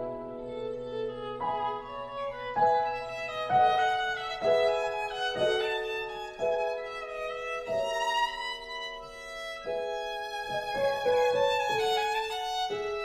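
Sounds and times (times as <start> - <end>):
slow violin melody: 0.0 - 13.0.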